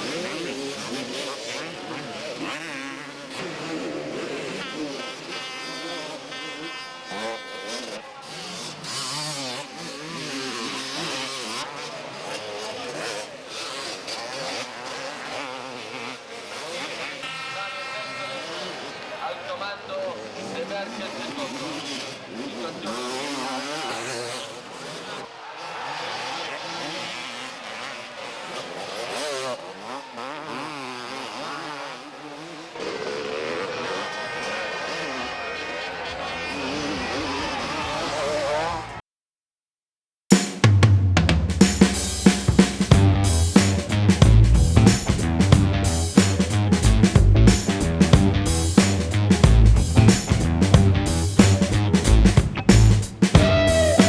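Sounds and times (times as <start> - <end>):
motocross bikes racing: 0.0 - 39.0, 41.6 - 54.0.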